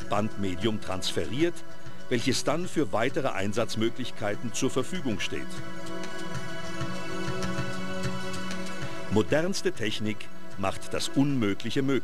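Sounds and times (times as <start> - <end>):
ambient music with low pulse: 0.0 - 12.0.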